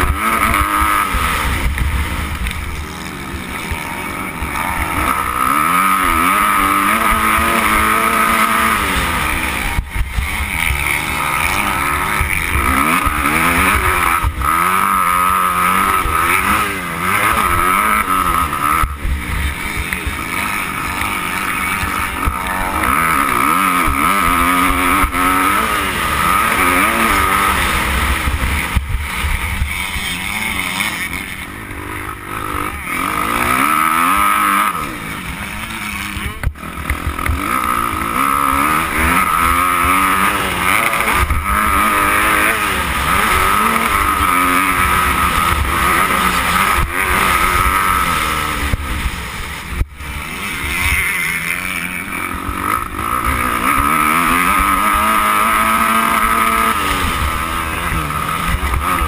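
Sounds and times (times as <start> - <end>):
dirt bike engine accelerating: 0.0 - 59.0.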